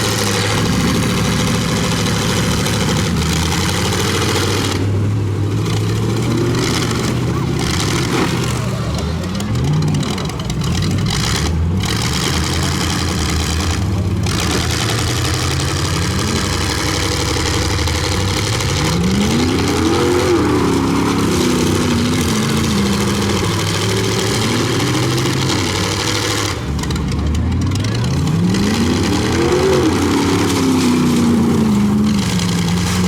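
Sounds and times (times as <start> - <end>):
pickup truck engines revving: 0.0 - 33.0.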